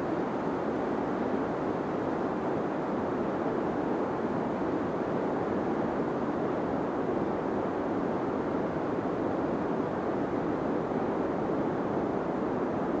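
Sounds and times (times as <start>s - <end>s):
deep white noise: 0.0s - 13.0s.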